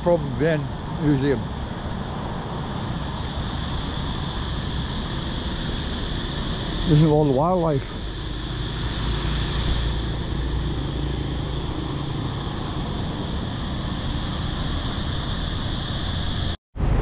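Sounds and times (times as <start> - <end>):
distant traffic rumble: 0.0 - 16.6
high-pitched hum: 0.0 - 17.0.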